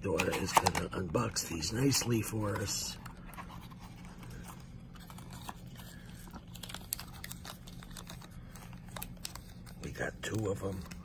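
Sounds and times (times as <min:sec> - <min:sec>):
foil pouches crinkling: 0:00.0 - 0:11.0.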